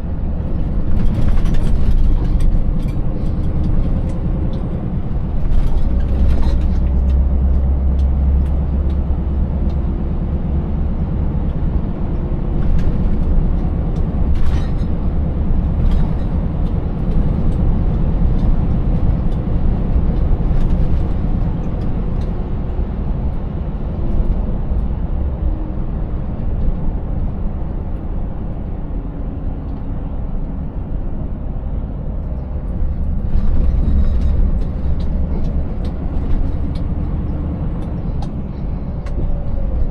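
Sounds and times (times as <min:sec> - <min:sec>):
diesel truck engine drone: 0:00.0 - 0:39.9
road noise: 0:00.0 - 0:39.9.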